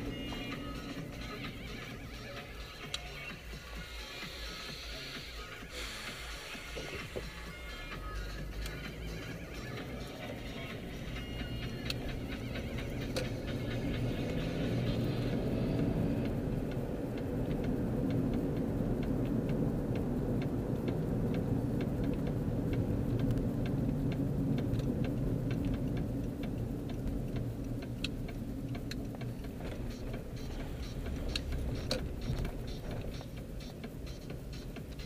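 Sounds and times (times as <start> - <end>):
car engine and road rumble: 0.0 - 35.0
regular ticking: 0.0 - 35.0.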